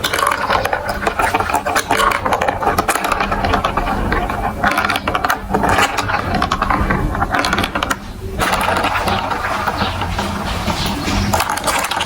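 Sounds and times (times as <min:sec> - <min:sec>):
marbles clattering on plastic run: 0:00.0 - 0:12.0.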